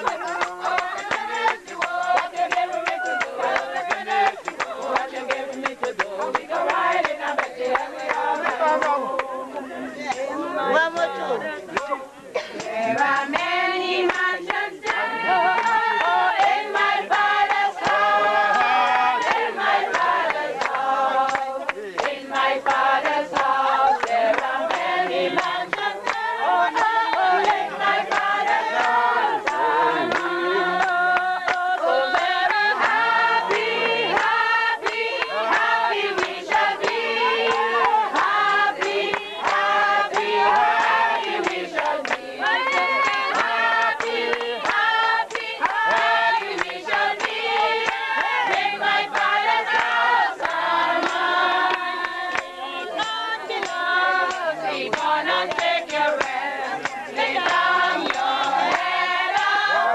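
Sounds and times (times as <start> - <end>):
sharp hand claps: 0.0 - 10.3, 11.7 - 59.9
group of people singing: 0.0 - 59.9.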